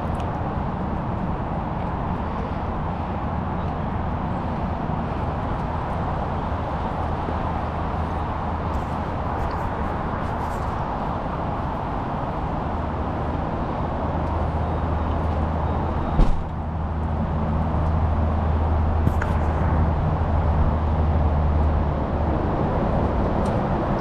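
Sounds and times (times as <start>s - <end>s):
vehicle running with road noise: 0.0s - 24.0s.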